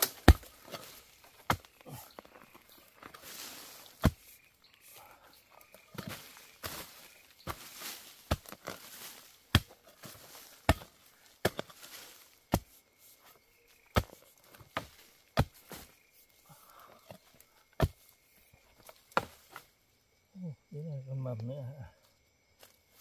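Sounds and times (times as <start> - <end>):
hoe striking soil and roots: 0.0 - 4.9, 5.6 - 19.7.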